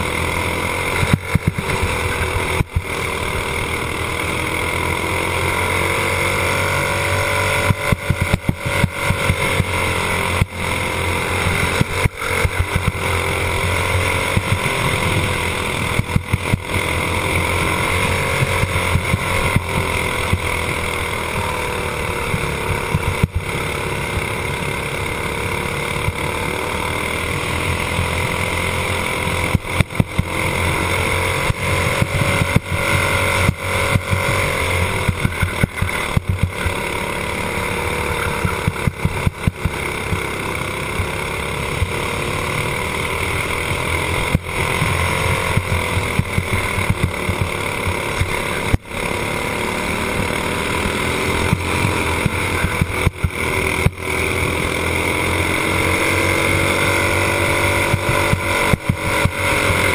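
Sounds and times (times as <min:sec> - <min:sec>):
engine crackles: 0:00.0 - 0:59.9
kart engine running hard: 0:00.0 - 0:59.9.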